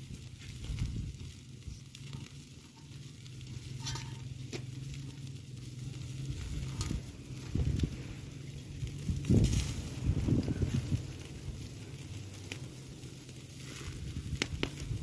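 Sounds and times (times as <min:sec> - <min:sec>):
crackles: 0:00.0 - 0:15.0
meat sizzling: 0:00.0 - 0:15.0.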